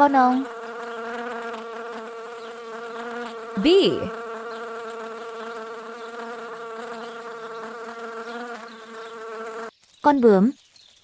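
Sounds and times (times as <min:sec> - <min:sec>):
bee buzzing: 0:00.0 - 0:09.7.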